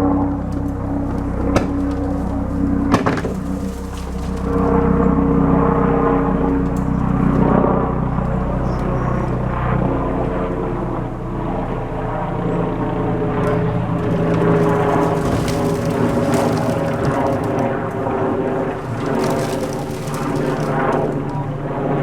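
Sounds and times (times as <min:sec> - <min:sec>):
engine running: 0:00.0 - 0:21.9.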